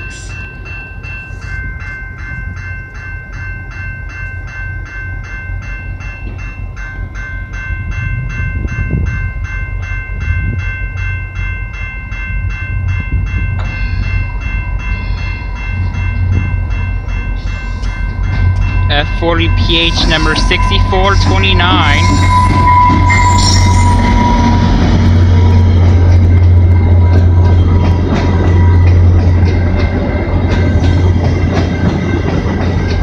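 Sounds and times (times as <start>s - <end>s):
level crossing bell ringing: 0.0s - 33.0s
steady high tone: 0.0s - 33.0s
diesel locomotive rumble: 5.4s - 33.0s.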